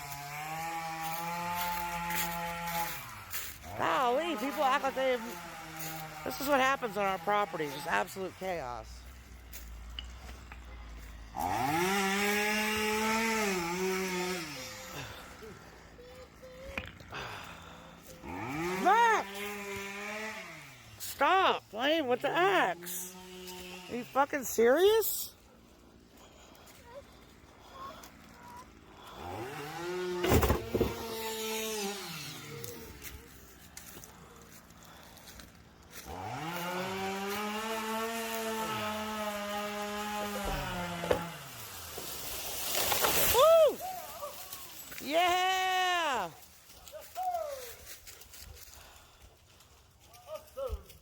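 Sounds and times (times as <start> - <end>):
chainsaw engine idling and revving: 0.0 - 43.4.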